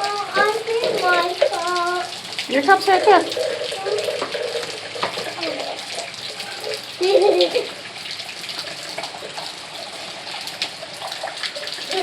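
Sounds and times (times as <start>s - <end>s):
running water: 0.0s - 12.0s
steady rain: 0.0s - 12.0s.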